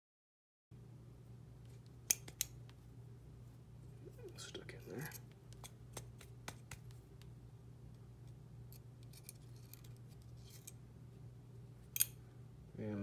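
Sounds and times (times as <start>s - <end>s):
steady low hum: 0.7s - 13.0s.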